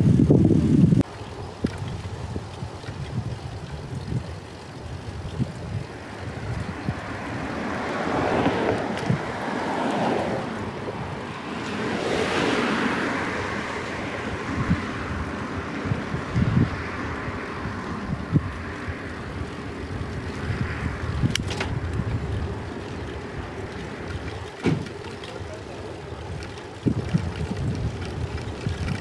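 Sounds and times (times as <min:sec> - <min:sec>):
wind rumble on microphone: 0:00.0 - 0:29.0
cars passing: 0:01.0 - 0:29.0
tyre noise: 0:05.1 - 0:29.0.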